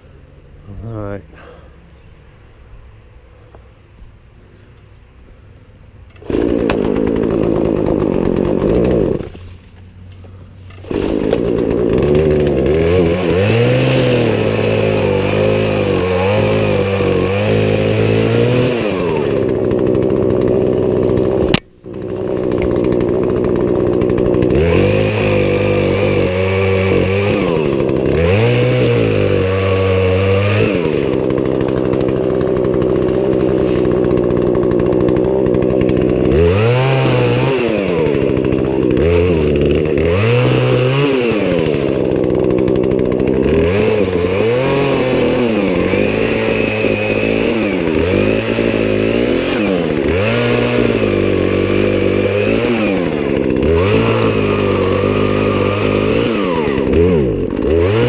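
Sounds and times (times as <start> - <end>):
chainsaw revving and idling: 6.1 - 58.0.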